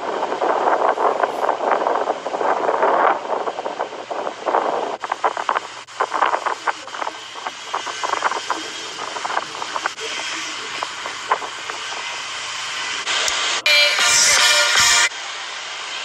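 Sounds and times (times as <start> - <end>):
wind blowing on microphone: 0.0 - 13.6
rush of wind: 0.0 - 16.0
surf: 0.0 - 16.0.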